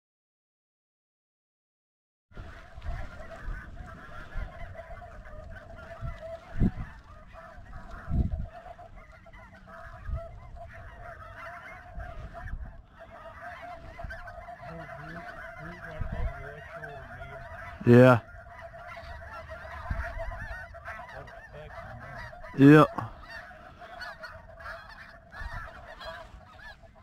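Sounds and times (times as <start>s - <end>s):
geese honking overhead: 2.4s - 27.0s.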